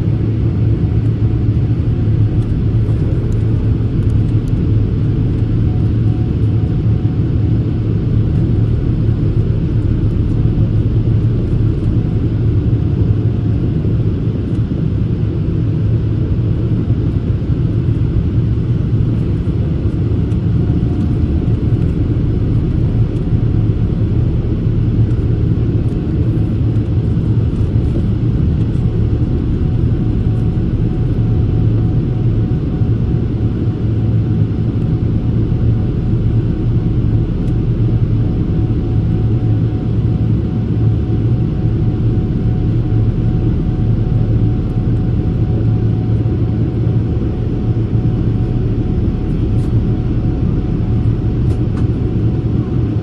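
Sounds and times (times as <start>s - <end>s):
aircraft cabin engine rumble: 0.0s - 53.0s.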